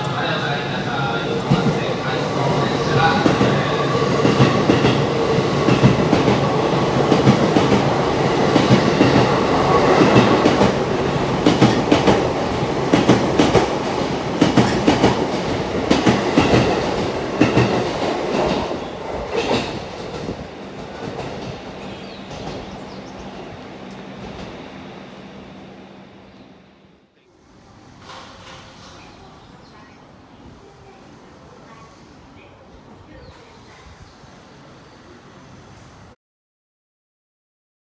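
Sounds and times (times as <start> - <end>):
train rumbling past: 0.0 - 36.2.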